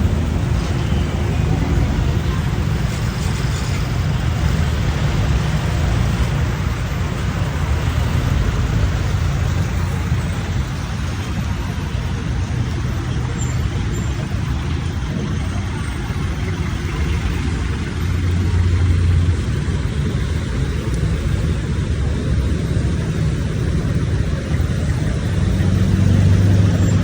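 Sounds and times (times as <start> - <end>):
nearby engine rumbling: 0.0 - 27.0
traffic engines running: 0.0 - 27.0.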